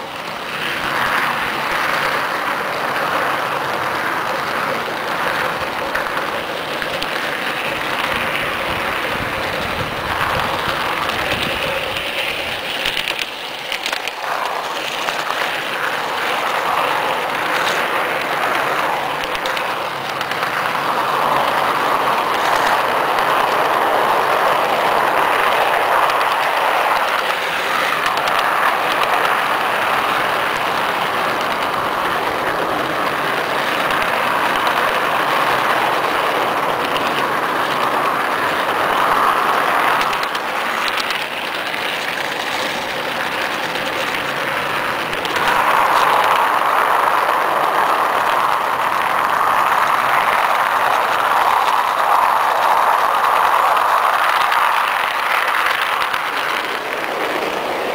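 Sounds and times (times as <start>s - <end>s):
model train wheels whirring on rails: 0.0s - 57.9s.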